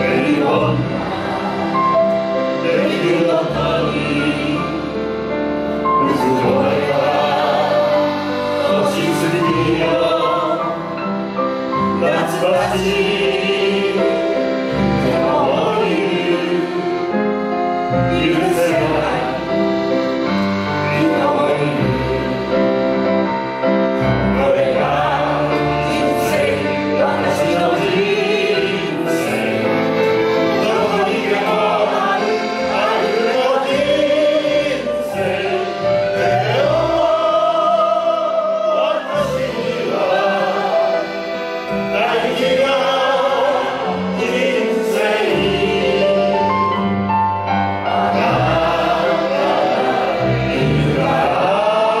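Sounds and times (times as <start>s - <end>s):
group singing into microphones: 0.0s - 20.0s, 20.8s - 22.9s, 24.0s - 46.5s, 47.8s - 52.0s
piano: 0.0s - 52.0s.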